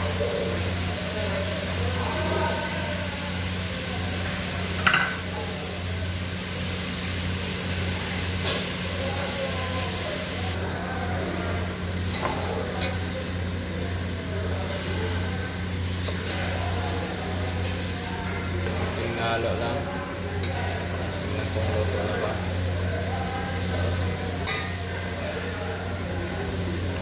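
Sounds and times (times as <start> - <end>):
food boiling and sizzling: 0.0 - 27.0
gas burner roaring: 0.0 - 27.0.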